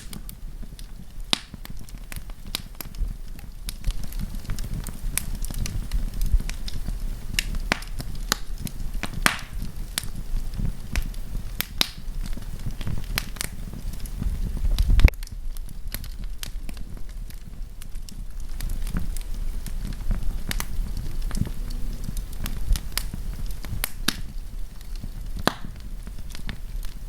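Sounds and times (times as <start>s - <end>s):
campfire crackling and popping: 0.0s - 27.0s
low rumble: 0.0s - 27.0s.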